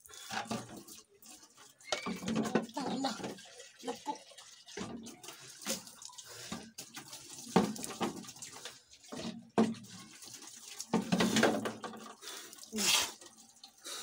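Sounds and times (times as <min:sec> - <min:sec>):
hose filling bucket: 0:00.0 - 0:14.0
water splashing on concrete: 0:00.2 - 0:13.4.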